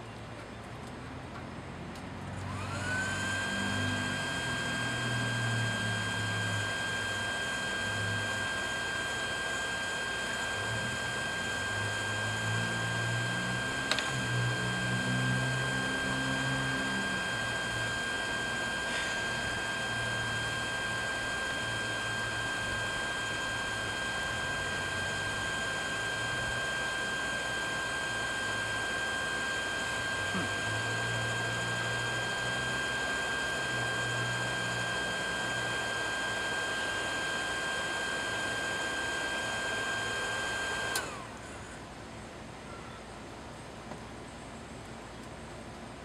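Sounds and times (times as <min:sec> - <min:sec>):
electric blower whining: 0:02.3 - 0:41.8.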